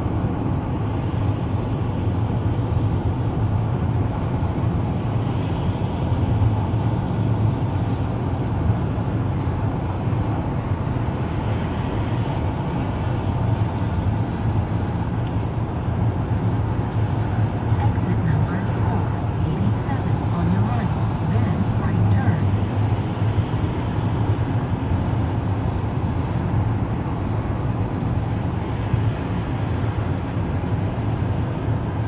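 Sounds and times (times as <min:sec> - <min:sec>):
car cabin road noise: 0:01.3 - 0:28.0.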